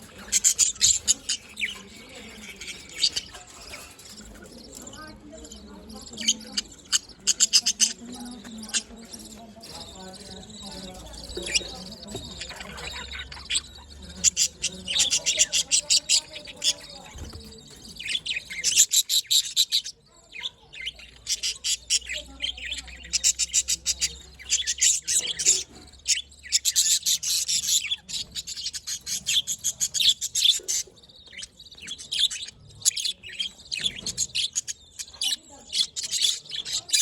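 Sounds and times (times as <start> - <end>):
budgerigars chirping: 0.0 - 37.0.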